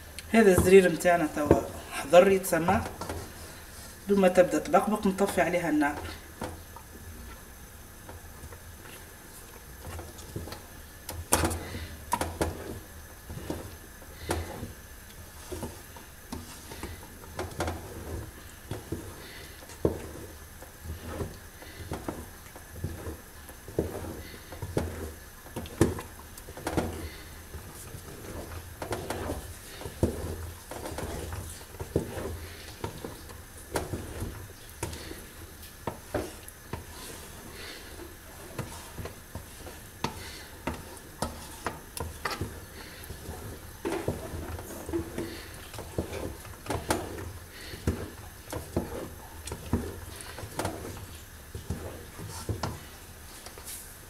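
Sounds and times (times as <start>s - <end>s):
wooden spoon scraping a pot: 0.4s - 7.5s, 8.1s - 54.0s.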